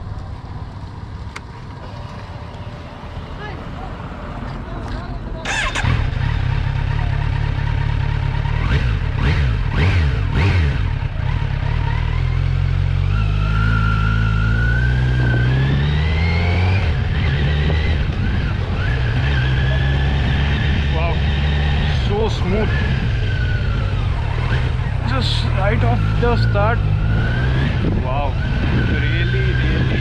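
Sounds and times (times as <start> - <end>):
motorcycle engine accelerating: 5.4 - 30.0.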